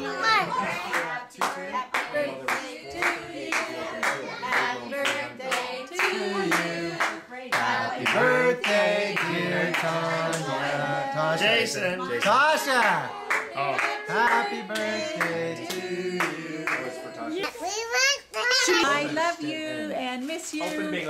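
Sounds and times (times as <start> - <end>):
group of people singing: 0.0 - 17.4, 18.7 - 21.0.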